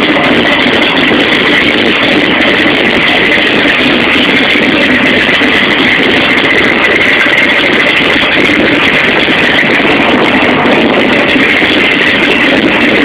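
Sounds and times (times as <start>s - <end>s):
loud engine idling lumpy: 0.0s - 13.0s.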